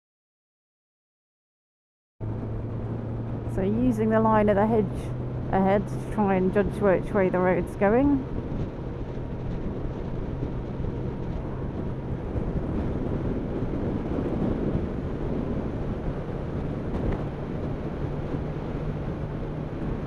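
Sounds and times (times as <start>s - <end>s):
motorcycle engine drone: 2.2s - 20.0s
wind rush over microphone: 2.2s - 20.0s.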